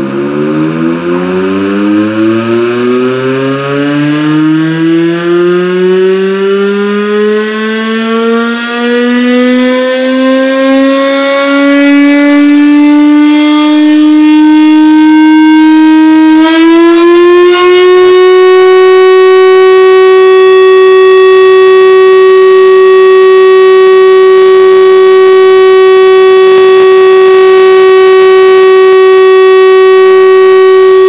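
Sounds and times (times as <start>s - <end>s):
fire siren winding up: 0.0s - 31.0s.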